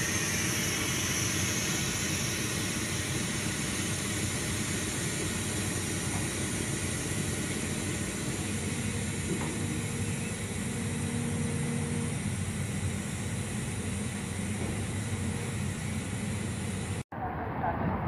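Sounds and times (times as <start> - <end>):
freight train rumble and hiss: 0.0 - 18.0.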